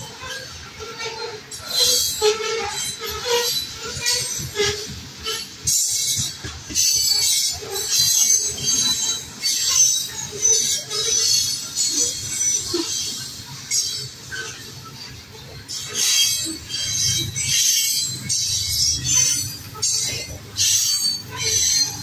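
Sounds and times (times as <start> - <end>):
freight train wheels rumbling: 0.0 - 22.0
high-pitched wheel squeal: 0.0 - 22.0.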